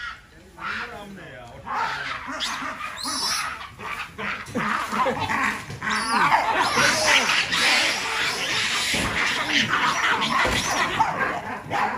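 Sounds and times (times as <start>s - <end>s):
baboons calling while fighting: 0.0s - 11.9s.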